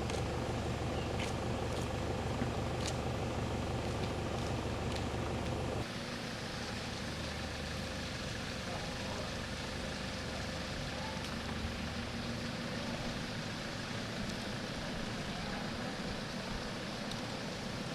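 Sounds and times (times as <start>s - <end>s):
vehicle engine rumbling: 0.0s - 17.9s.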